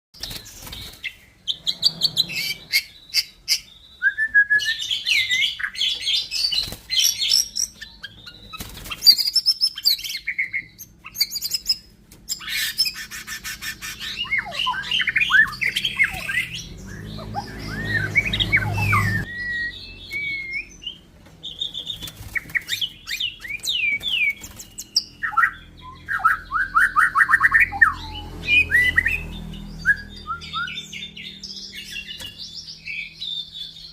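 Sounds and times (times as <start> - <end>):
bird singing whistles and trills: 0.2 - 33.9.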